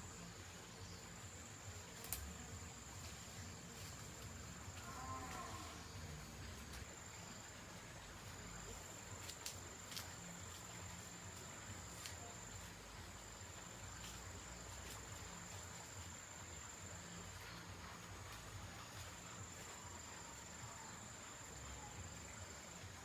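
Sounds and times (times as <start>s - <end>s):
insects trilling faintly: 0.0s - 23.0s.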